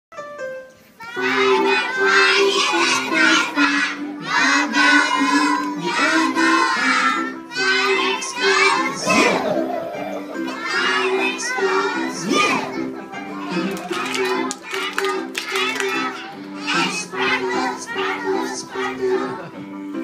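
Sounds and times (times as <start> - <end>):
backing music track: 0.2 - 20.0
children singing loudly: 1.0 - 19.6.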